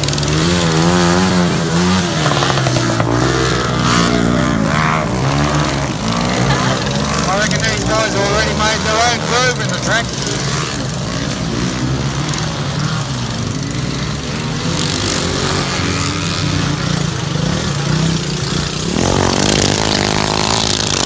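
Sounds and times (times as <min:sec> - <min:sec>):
lawn mower engines racing: 0:00.0 - 0:21.0.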